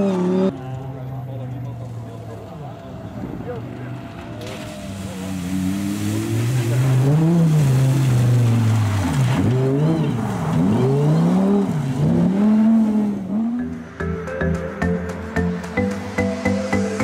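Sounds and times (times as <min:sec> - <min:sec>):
car engine at hard throttle: 0:00.0 - 0:13.6.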